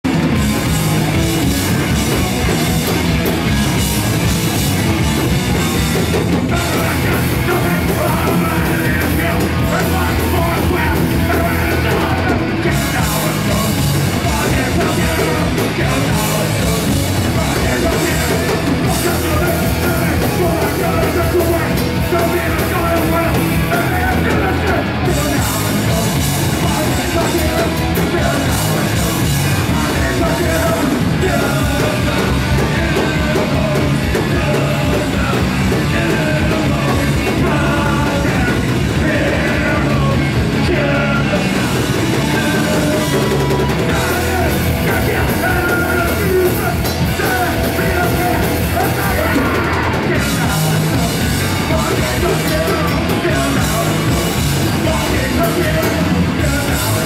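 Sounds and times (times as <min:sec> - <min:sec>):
bass guitar: 0:00.0 - 0:57.0
distorted electric guitars: 0:00.0 - 0:57.0
fast drums: 0:00.0 - 0:57.0
shouted vocals: 0:06.4 - 0:57.0.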